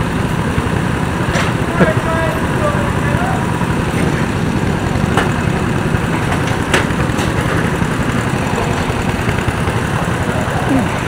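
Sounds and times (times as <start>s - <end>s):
go-kart engine idling: 0.0s - 11.0s.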